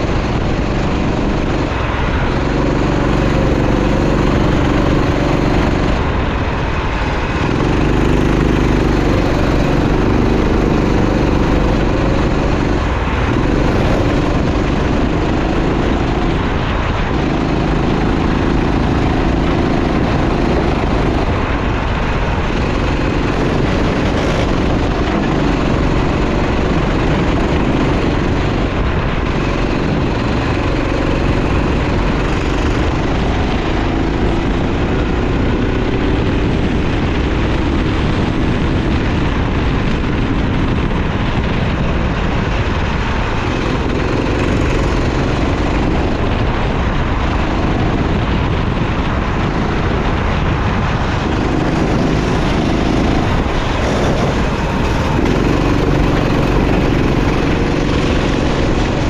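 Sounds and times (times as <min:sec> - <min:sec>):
kart engine revving: 0:00.0 - 0:59.0
steady rush of noise: 0:00.0 - 0:59.0.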